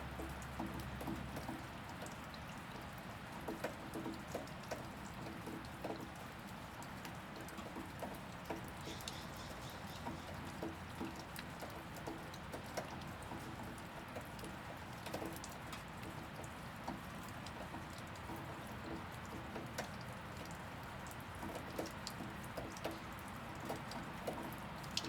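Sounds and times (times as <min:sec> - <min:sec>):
drops pattering and dripping: 0:00.0 - 0:25.0.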